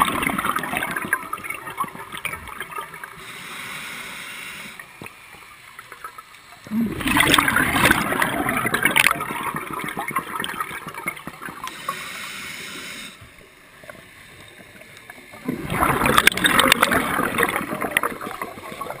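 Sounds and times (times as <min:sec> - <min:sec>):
scuba bubbles underwater: 0:00.0 - 0:19.0.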